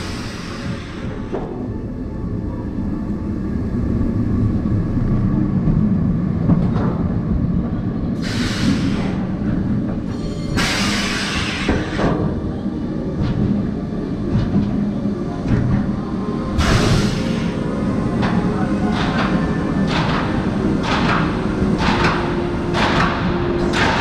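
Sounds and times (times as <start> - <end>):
roller coaster rumbling on rails: 0.0 - 24.0.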